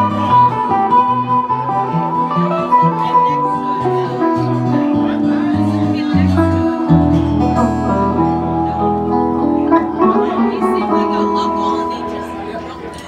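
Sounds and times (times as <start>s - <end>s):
acoustic guitar picked notes: 0.0s - 13.0s.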